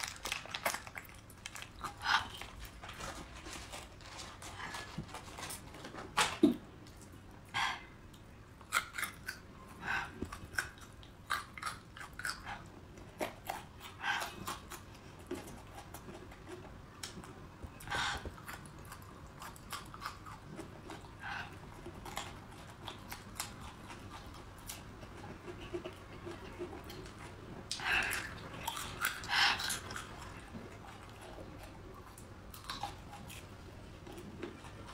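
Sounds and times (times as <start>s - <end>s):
crunching and chewing garlic: 0.0s - 7.2s, 8.1s - 34.9s.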